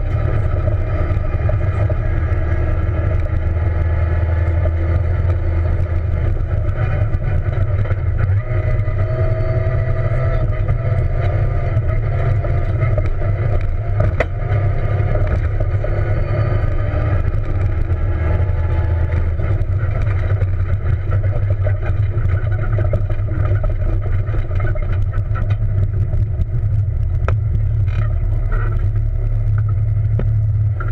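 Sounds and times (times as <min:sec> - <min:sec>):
car engine: 0:00.0 - 0:30.9
tyre and road rumble: 0:00.0 - 0:30.9.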